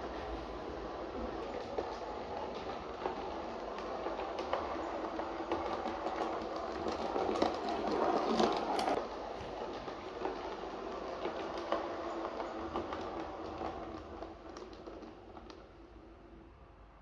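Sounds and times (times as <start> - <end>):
model train motor hum: 0.0 - 14.7
wheels clicking over rails: 0.0 - 16.8.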